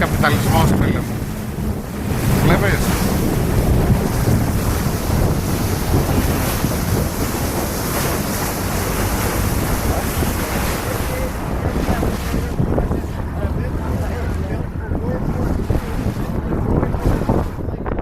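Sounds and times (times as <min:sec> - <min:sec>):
water rushing past boat: 0:00.0 - 0:18.0
wind buffeting microphone: 0:00.0 - 0:18.0.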